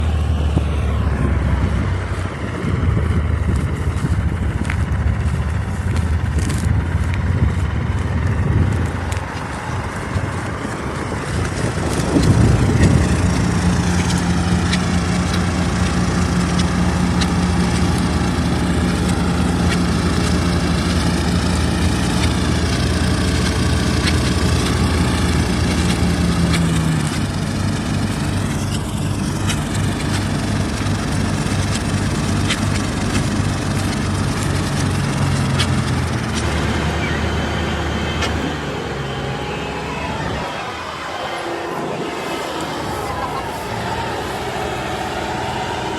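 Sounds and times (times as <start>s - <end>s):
diesel engine running: 0.0s - 45.9s
steady hum: 0.0s - 45.9s.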